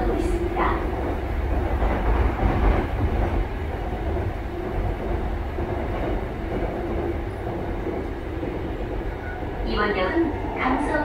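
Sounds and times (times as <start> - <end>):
train cabin rumble on rails: 0.0 - 11.0.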